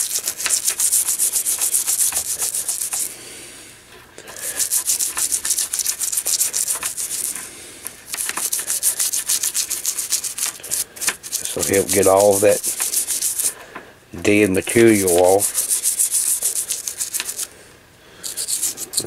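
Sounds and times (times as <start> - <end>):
toothbrush scrubbing: 0.0 - 3.1, 4.3 - 7.5, 8.1 - 13.5, 14.6 - 17.5, 18.2 - 19.0.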